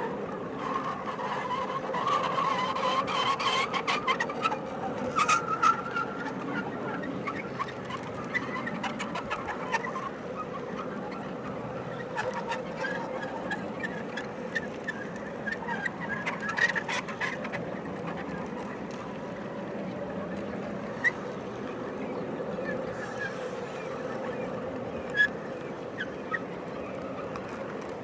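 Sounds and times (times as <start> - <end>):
faint wheel squealing: 0.0 - 28.0.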